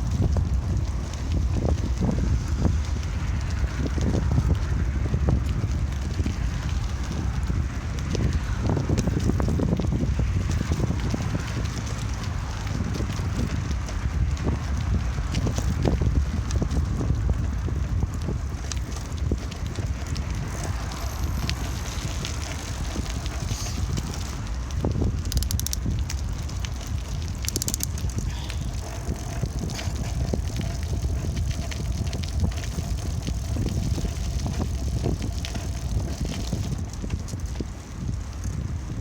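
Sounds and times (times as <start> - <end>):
bicycle clicks and rattles: 0.0 - 39.0
bicycle tyres rumbling on ground: 0.0 - 39.0
wind on microphone: 0.0 - 39.0.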